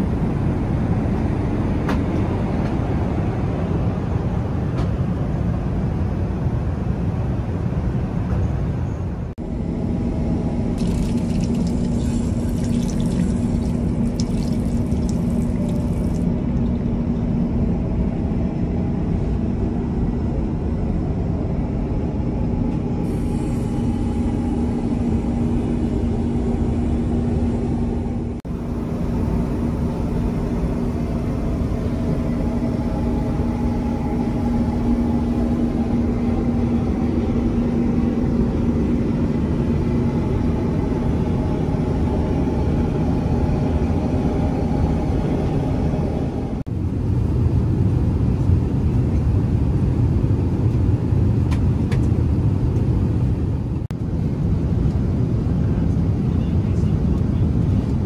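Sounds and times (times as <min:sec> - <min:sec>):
airplane cabin rumble: 0:00.0 - 0:58.0
steady hum: 0:09.4 - 0:58.0.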